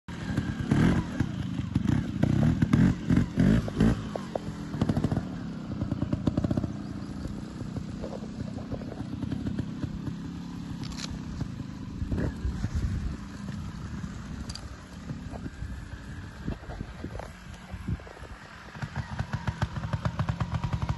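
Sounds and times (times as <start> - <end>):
motorcycle engine revving: 0.1 - 20.9.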